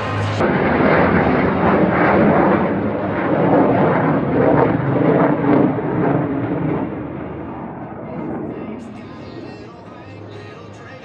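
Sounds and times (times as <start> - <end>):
fighter jet roaring overhead: 0.0 - 11.0.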